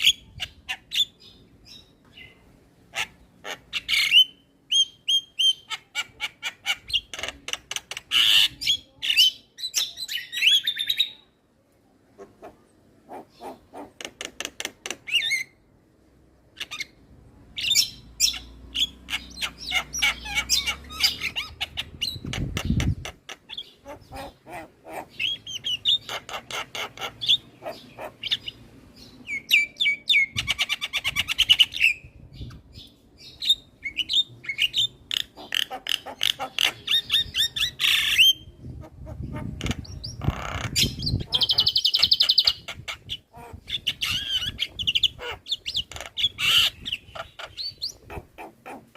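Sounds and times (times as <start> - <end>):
bird chattering song: 0.0 - 11.3, 12.2 - 15.6, 17.6 - 48.9.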